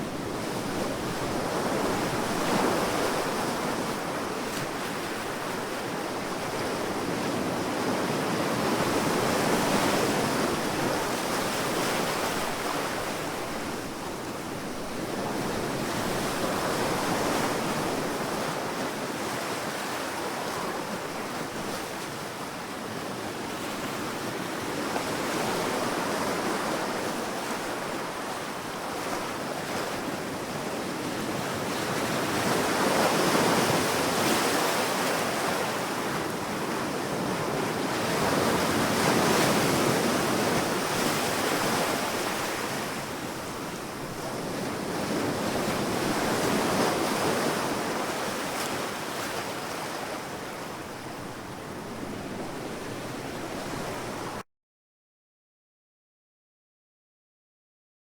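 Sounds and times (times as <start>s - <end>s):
sea waves breaking on beach: 0.0s - 54.4s.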